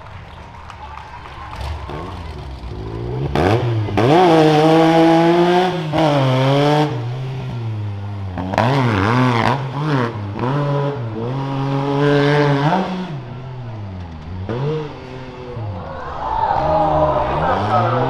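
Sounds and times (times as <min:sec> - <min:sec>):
utv engine revving: 0:01.5 - 0:18.0.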